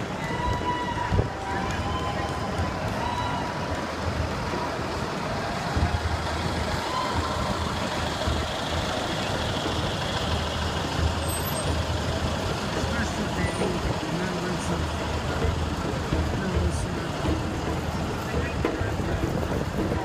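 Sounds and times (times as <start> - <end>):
bus diesel engine rumbling: 0.0 - 20.0
street noise: 0.0 - 20.0.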